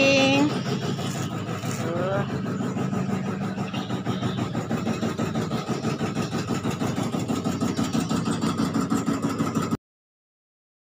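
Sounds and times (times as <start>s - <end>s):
engine idling: 0.0s - 9.8s.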